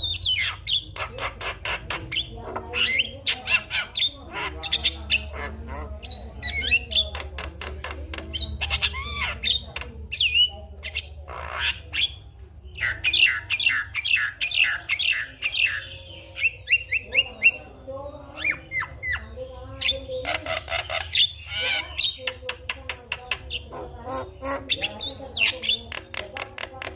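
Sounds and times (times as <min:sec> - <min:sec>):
myna calling: 0:00.0 - 0:26.9.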